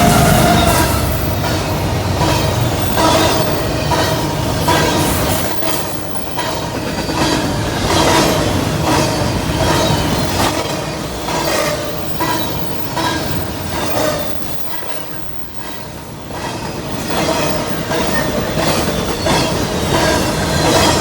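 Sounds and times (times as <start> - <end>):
train wheels clacking over rail joints: 0.0 - 21.0.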